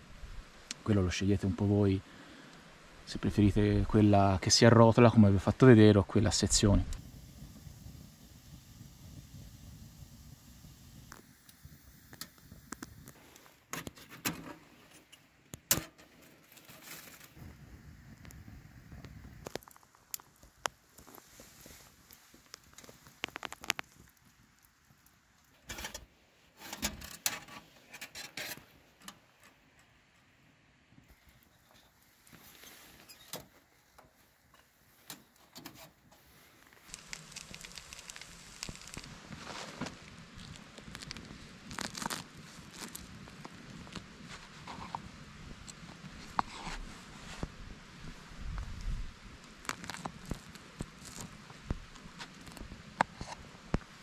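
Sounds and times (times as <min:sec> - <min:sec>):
faint crackles and sharp clicks: 0:08.8 - 0:30.3, 0:31.0 - 0:54.0.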